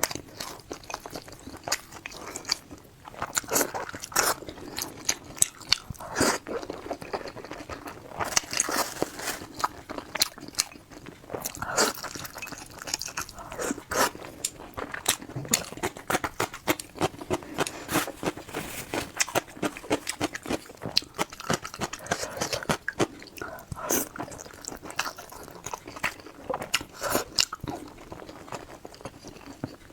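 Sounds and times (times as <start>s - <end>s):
person chewing crisp food: 0.0s - 29.9s.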